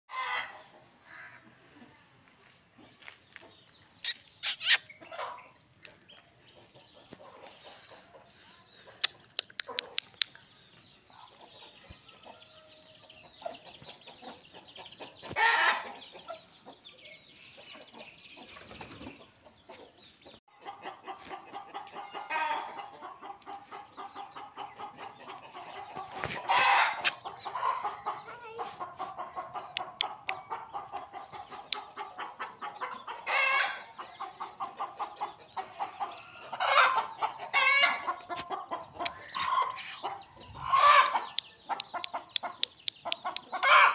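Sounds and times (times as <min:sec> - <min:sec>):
chickens clucking: 0:00.1 - 0:43.9.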